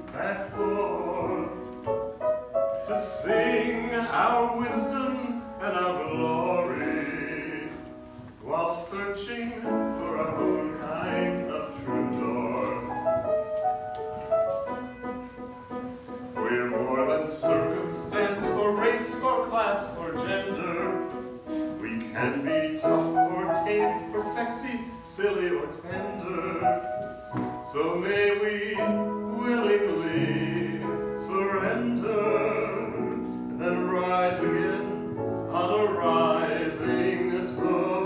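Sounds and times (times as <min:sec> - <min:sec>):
musical accompaniment: 0:00.0 - 0:38.0
person singing: 0:02.8 - 0:13.9, 0:16.4 - 0:38.0.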